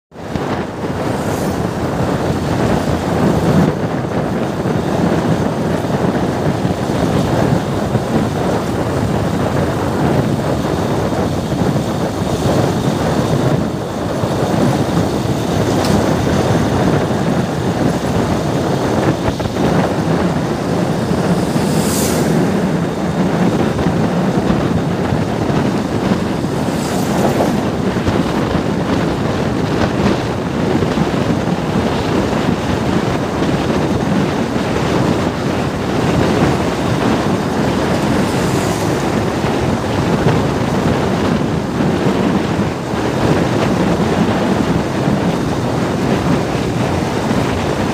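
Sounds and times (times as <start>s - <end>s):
tyres and wind rumble: 0.1s - 47.9s.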